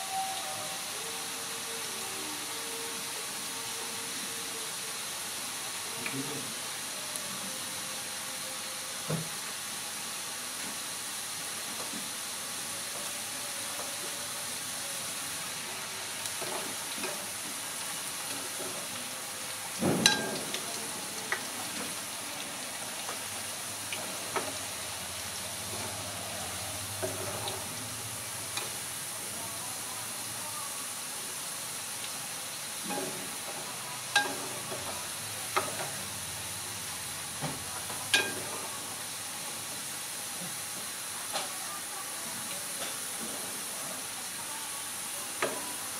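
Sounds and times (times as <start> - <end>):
fries sizzling in hot oil: 0.0 - 45.9.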